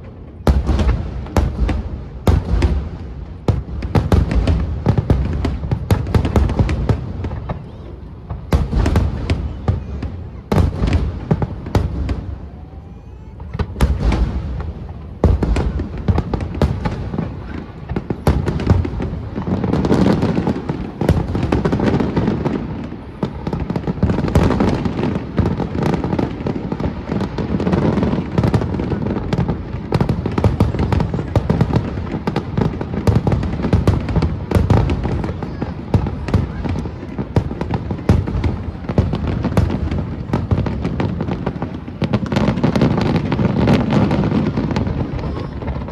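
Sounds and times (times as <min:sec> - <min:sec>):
fireworks booming and crackling: 0:00.0 - 0:45.9.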